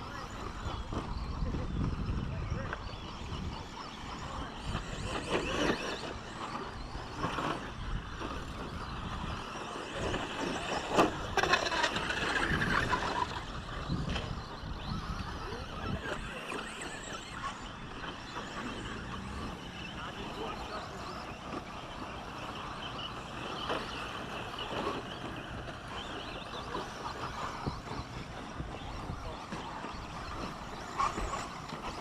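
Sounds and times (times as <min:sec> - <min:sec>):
rc trucks racing: 0:00.0 - 0:32.0.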